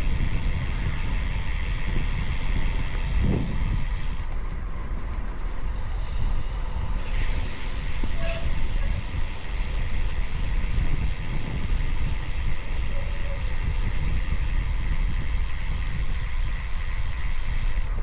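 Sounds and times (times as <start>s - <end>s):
tyres hissing on wet road: 0.0s - 18.0s
wind buffeting microphone: 0.0s - 18.0s.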